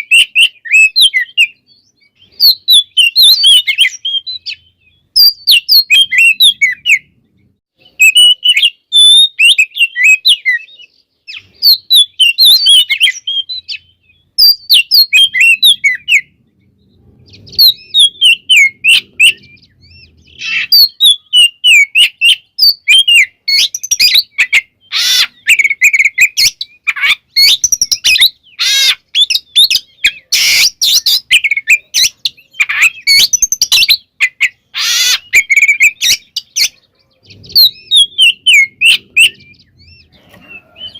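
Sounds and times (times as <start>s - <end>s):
bird singing whistled phrases: 0.0s - 7.1s, 7.8s - 16.4s, 17.2s - 40.9s.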